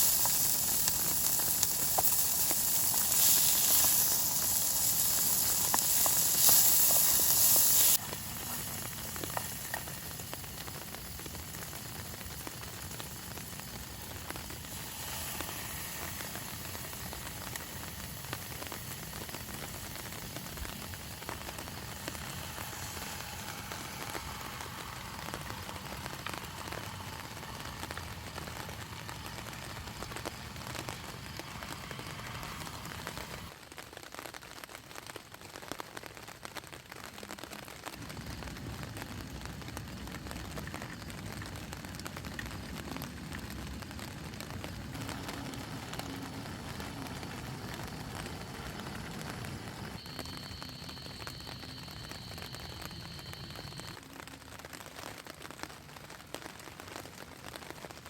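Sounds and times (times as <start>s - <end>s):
loud steady hiss: 0.0s - 35.9s, 36.6s - 58.0s
rain pattering: 0.0s - 58.0s.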